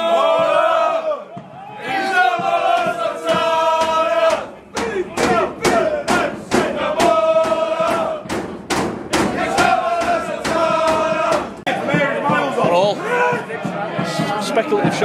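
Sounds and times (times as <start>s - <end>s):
football crowd chanting: 0.0s - 15.0s
sharp rhythmic beats: 0.0s - 15.0s.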